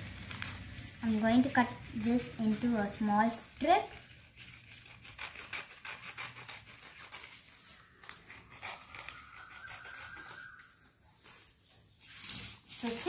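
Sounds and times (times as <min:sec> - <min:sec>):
scissors snipping paper: 0:00.0 - 0:10.6
paper rustling: 0:00.0 - 0:13.0.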